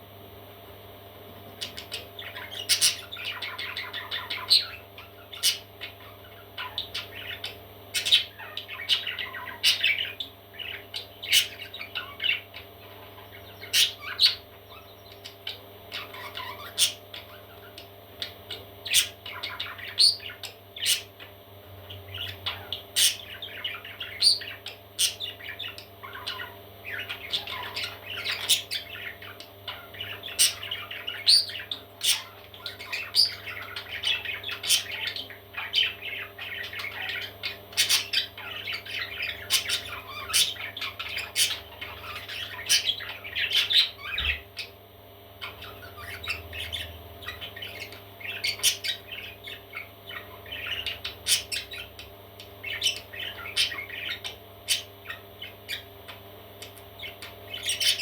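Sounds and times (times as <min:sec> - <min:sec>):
steady low hum: 0:00.0 - 0:58.0
parrot chicks squawking and chirping: 0:01.2 - 0:58.0.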